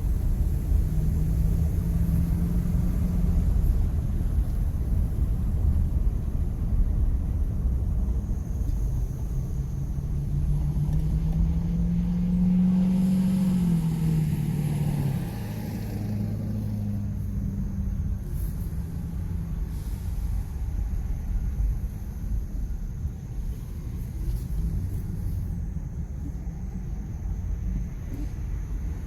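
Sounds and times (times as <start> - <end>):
pickup truck engine rumbling: 0.0 - 29.0.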